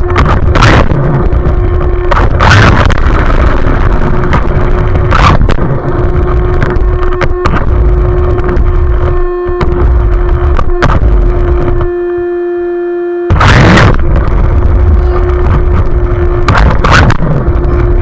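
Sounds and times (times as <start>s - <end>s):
chassis rumble and rattle: 0.0s - 12.3s, 13.3s - 18.0s.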